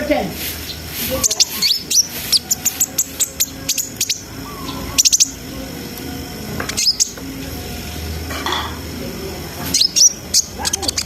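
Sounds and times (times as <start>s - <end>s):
sunbird chirping: 0.0s - 11.0s.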